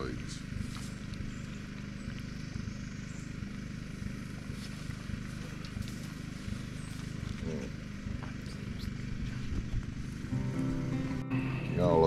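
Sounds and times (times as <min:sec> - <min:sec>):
sharp crackles: 0:00.0 - 0:10.3
low motor hum: 0:00.0 - 0:12.0.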